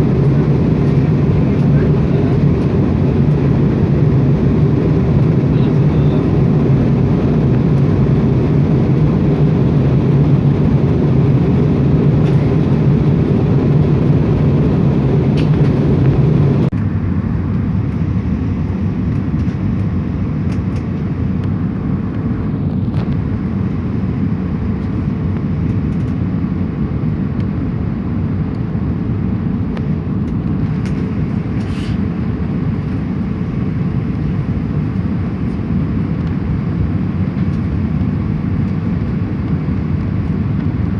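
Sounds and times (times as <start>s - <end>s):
airliner engines and rushing air: 0.0s - 40.9s.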